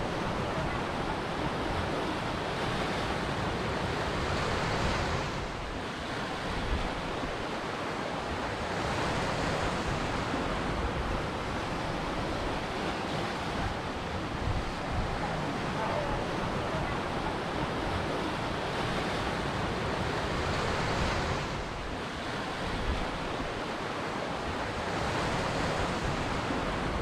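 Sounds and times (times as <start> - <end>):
ocean waves breaking: 0.0 - 27.0.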